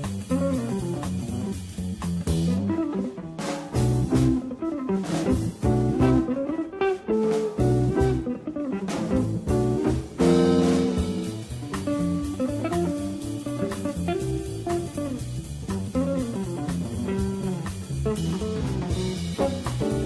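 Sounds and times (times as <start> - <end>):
jazz electric guitar: 0.0 - 20.0.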